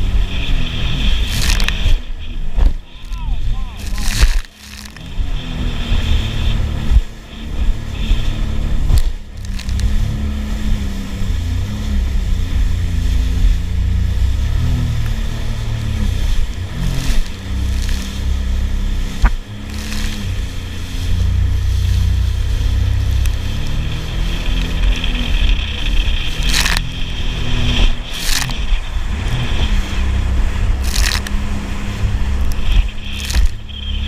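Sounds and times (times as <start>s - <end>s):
water noise: 0.0s - 34.0s
watercraft engine running: 0.0s - 34.0s
wind: 0.0s - 34.0s.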